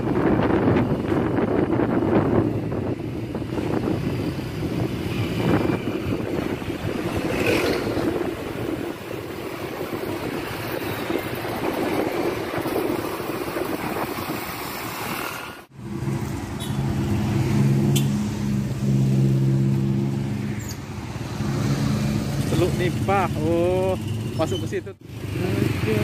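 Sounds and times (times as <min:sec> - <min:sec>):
motorcycle engine riding: 0:00.0 - 0:18.9, 0:19.7 - 0:26.0
wind rushing over microphone: 0:00.0 - 0:22.7.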